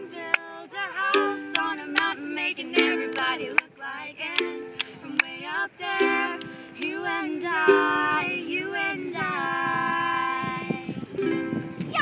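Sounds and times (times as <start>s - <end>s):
women singing: 0.0s - 11.1s
strummed ukulele: 0.0s - 12.0s.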